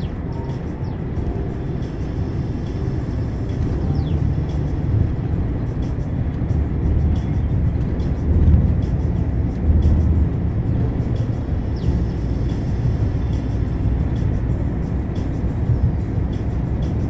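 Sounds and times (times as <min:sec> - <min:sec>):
engine and tyre rumble: 0:00.0 - 0:17.0
light rattles: 0:00.0 - 0:17.0.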